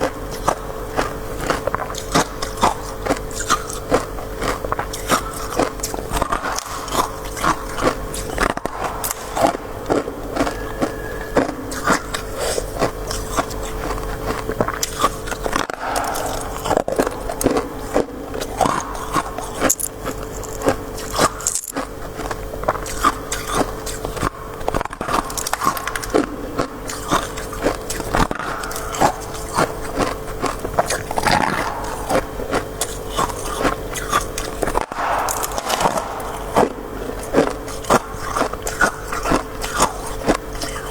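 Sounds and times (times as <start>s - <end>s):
crunching frost being chewed: 0.0s - 40.9s.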